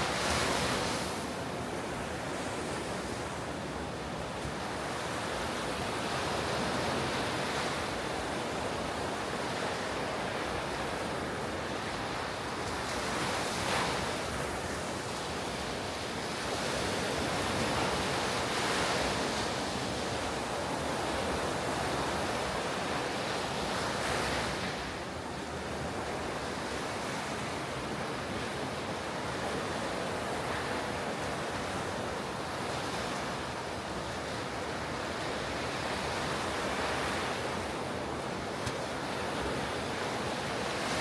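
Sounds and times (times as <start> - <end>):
ocean waves breaking: 0.0 - 41.0.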